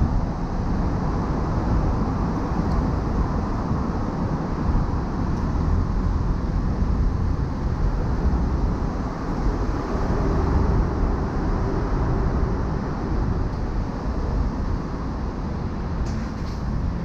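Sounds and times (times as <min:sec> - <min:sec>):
car road noise rumble: 0:00.0 - 0:17.0.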